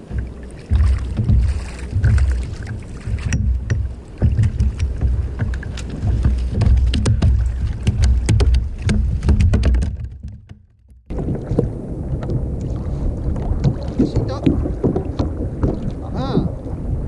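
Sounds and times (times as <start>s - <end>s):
water and wind buffeting hull: 0.0s - 17.0s.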